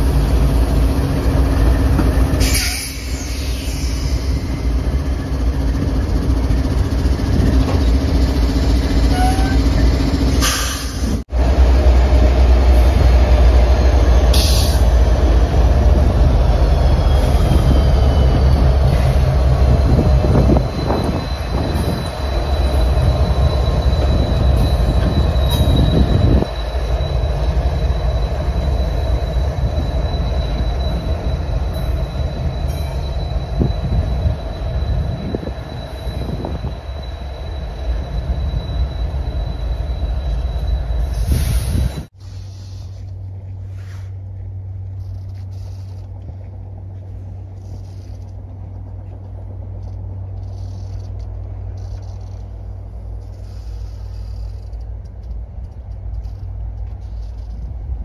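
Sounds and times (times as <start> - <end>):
wheels squealing on rail: 0.0 - 11.2, 11.8 - 58.0
locomotive engine drone: 0.0 - 58.0
wheels rumbling on rail: 0.0 - 58.0.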